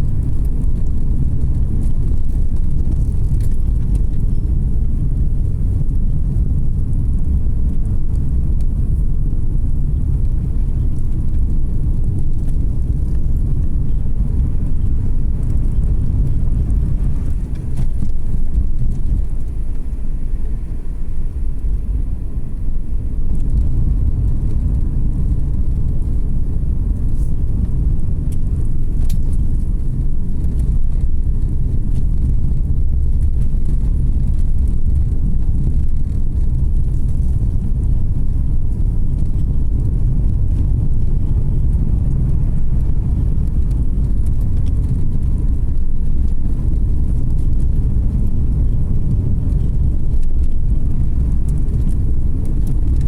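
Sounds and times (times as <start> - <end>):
car driving rumble: 0.0 - 53.0.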